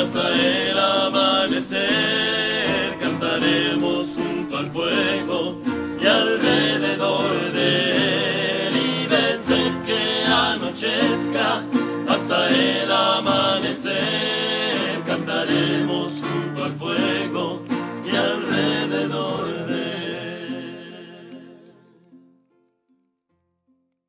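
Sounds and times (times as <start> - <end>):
acoustic guitar strumming: 0.0 - 23.8.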